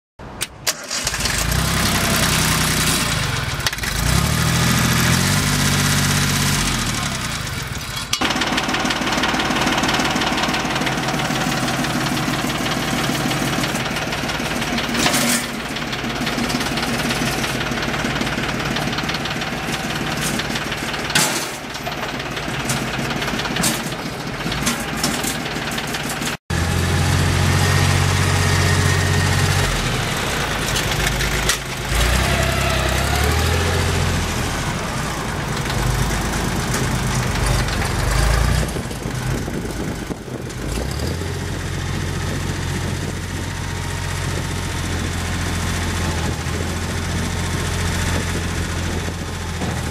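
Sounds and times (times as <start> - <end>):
tractor diesel engine running: 0.2 - 49.9.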